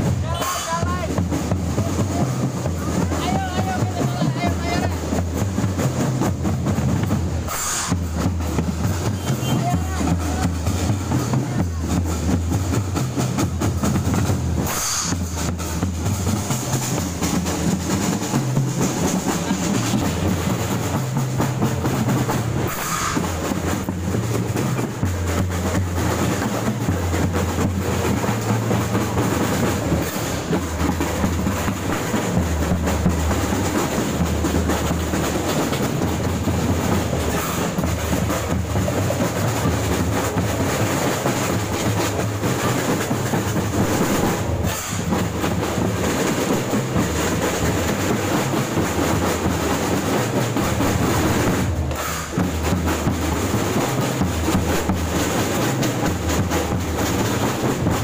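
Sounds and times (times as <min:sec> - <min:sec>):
bass drums: 0:00.0 - 0:58.0
snare drums: 0:00.0 - 0:58.0.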